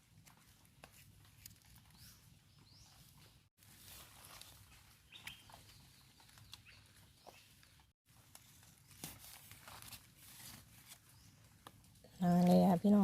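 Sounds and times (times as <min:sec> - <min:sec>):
faint rustling in leaves: 0:00.0 - 0:13.0.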